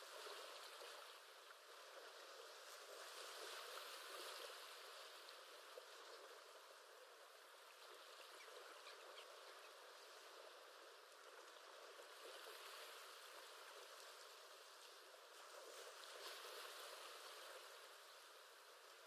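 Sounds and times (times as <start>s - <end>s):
ocean waves: 0.0s - 19.0s.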